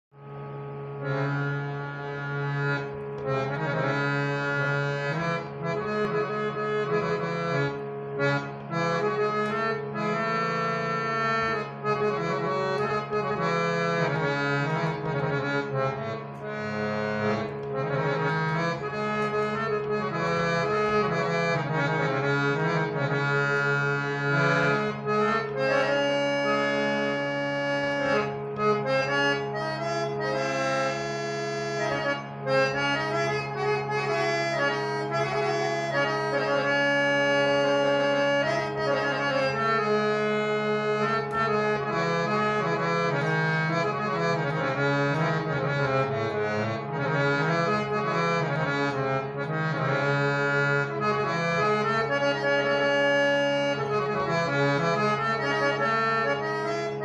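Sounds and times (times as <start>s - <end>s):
harmonium melody: 0.1s - 57.0s.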